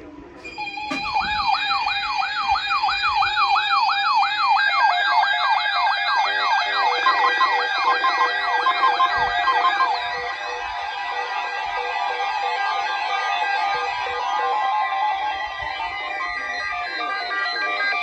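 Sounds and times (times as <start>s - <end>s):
electronic siren yelping: 0.4s - 18.0s.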